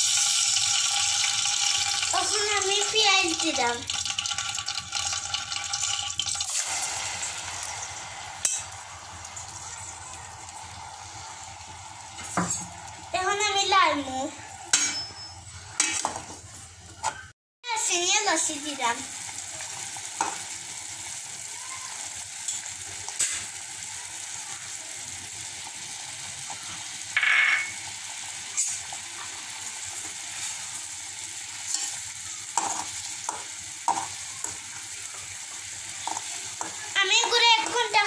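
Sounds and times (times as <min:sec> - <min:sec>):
onions sizzling in oil: 0:00.0 - 0:16.7, 0:17.7 - 0:38.0.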